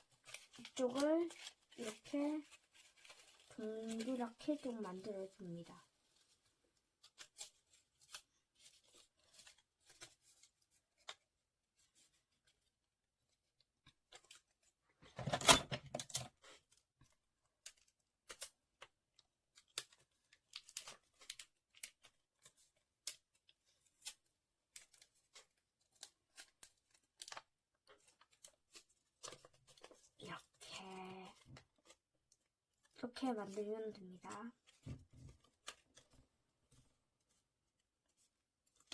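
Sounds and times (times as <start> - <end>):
paper crinkling and rustling: 0.0 - 38.9.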